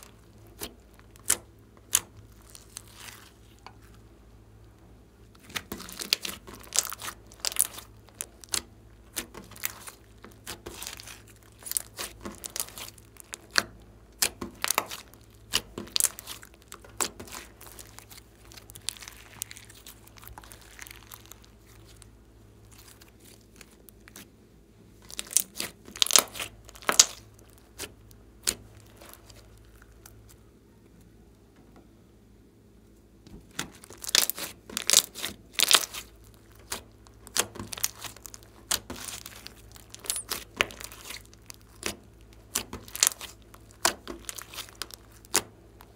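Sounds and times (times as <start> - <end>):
slime popping and crackling: 0.0 - 4.0, 5.3 - 24.3, 25.0 - 30.4, 33.4 - 45.9.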